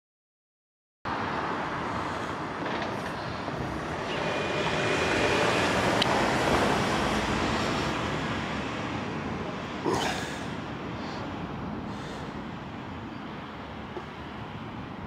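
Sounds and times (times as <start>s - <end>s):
urban traffic noise: 1.1s - 15.0s.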